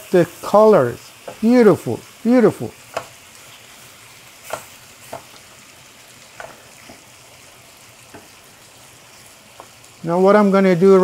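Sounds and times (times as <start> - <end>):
shrimp sizzling in a pan: 0.0 - 11.0.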